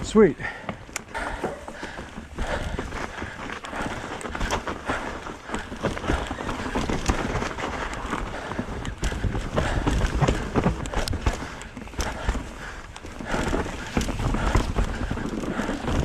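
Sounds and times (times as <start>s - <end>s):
bike tyres crunching on dirt: 0.0s - 16.0s
bike rattling and clattering: 0.4s - 16.0s.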